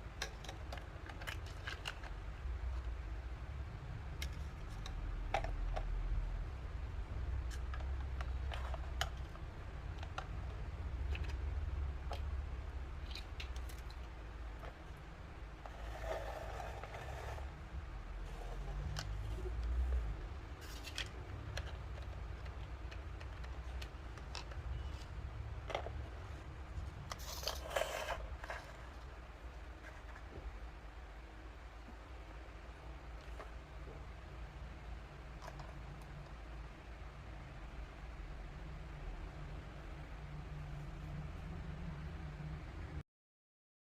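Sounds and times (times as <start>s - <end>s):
low steady hum: 0.0s - 43.0s
low steady rumble: 0.0s - 43.0s.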